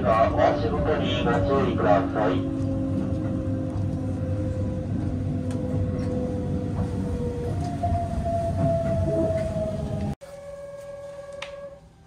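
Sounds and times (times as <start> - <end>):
train running rumble: 0.0 - 11.3.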